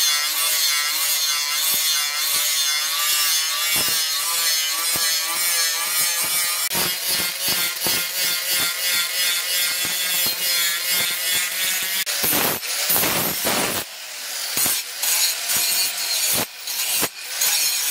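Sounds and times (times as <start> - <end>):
angle grinder grinding steel: 0.0 - 17.9.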